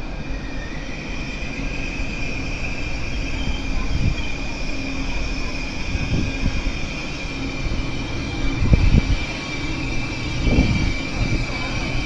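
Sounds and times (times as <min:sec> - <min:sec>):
high-pitched train whine: 0:00.0 - 0:12.0
train rumbling: 0:00.0 - 0:12.0.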